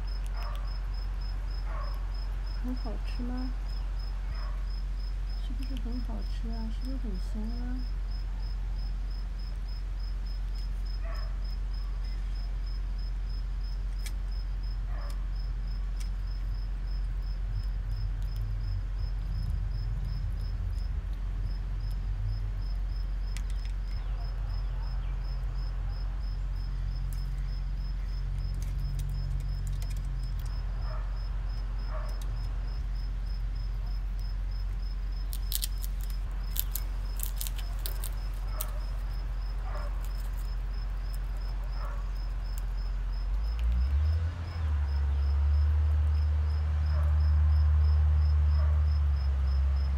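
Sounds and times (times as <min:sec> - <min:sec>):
cricket chirping trill: 0:00.0 - 0:49.9
low steady hum: 0:00.0 - 0:49.9.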